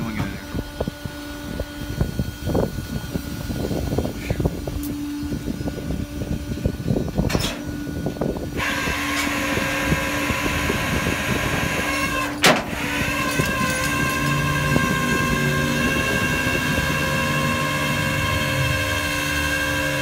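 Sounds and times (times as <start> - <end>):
steady low hum: 0.0 - 20.0
winch motor whine: 0.0 - 20.0.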